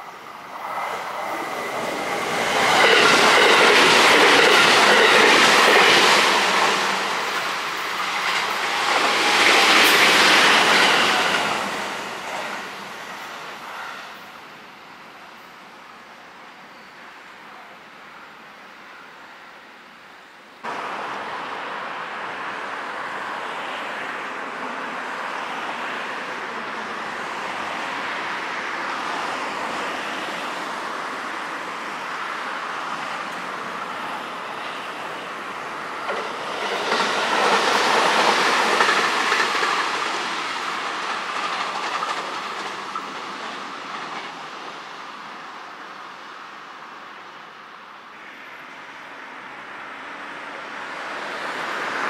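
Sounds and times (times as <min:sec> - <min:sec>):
train rumble with wheel clatter: 0:00.0 - 0:15.4, 0:20.7 - 0:52.0.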